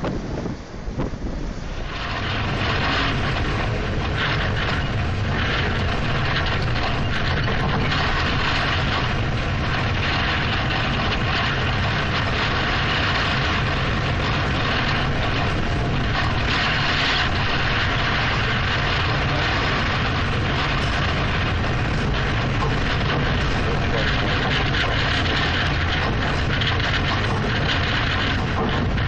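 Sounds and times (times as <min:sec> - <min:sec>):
rough sea: 0:00.0 - 0:29.0
storm wind roaring: 0:00.0 - 0:29.0.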